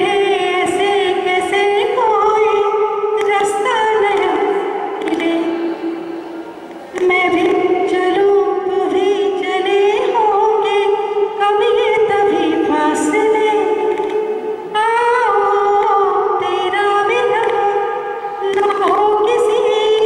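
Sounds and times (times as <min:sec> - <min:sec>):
woman singing into microphone: 0:00.0 - 0:20.0.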